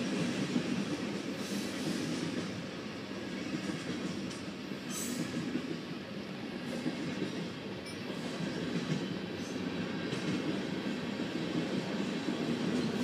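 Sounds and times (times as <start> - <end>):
train wheels on track: 0.0 - 13.0.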